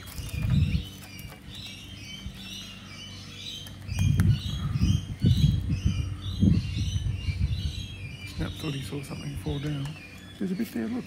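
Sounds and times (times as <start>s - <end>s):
low thumps and rumbles: 0.0s - 2.6s, 3.6s - 10.1s
birds chirping: 0.0s - 11.0s.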